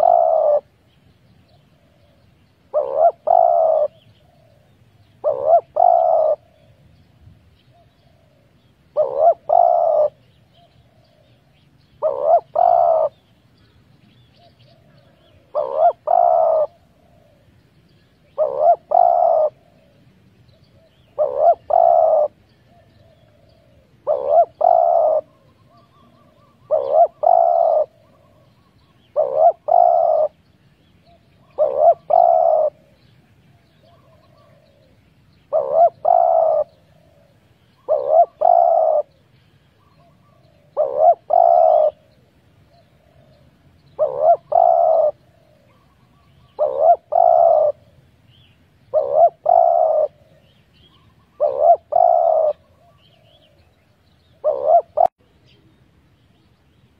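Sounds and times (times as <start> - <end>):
dove cooing: 0.0 - 7.0, 7.6 - 17.6, 18.2 - 55.2.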